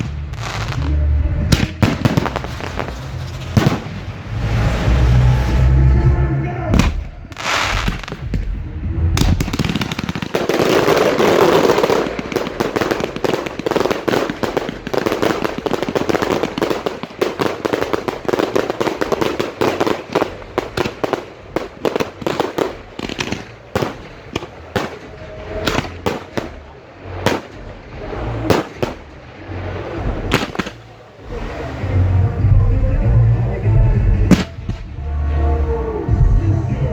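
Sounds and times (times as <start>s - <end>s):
fireworks bangs and crackle: 0.0s - 35.4s.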